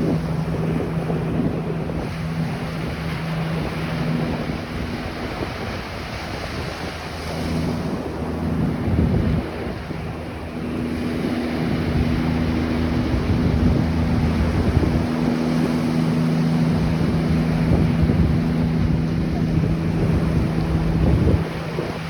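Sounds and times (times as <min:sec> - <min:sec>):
low engine drone: 0:00.0 - 0:22.0
ocean surf washing on beach: 0:00.0 - 0:22.0
wind buffeting microphone: 0:00.0 - 0:22.0.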